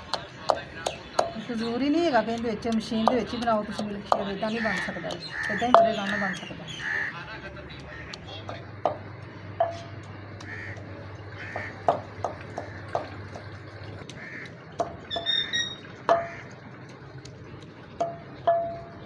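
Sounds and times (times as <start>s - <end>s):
pestle pounding in clay mortar: 0.0s - 16.5s, 17.9s - 19.0s
birds calling: 0.0s - 19.0s.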